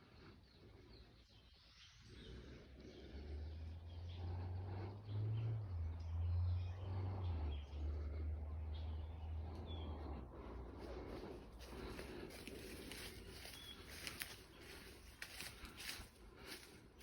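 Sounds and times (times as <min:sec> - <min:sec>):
outdoor background noise: 0:00.0 - 0:17.0
steady low rumble: 0:02.1 - 0:17.0.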